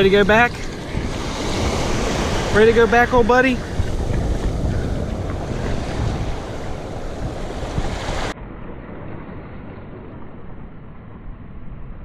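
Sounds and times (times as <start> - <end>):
ocean surf washing: 0.0 - 11.8
wind rumbling on microphone: 0.0 - 12.0.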